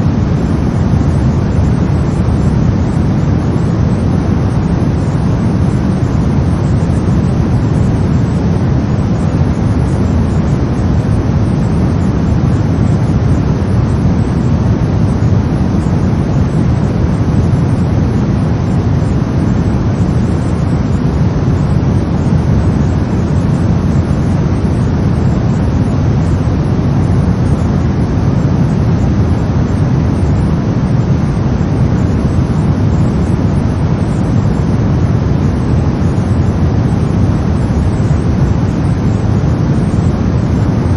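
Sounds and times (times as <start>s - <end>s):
brown noise deep rumbling hiss: 0.0s - 40.9s.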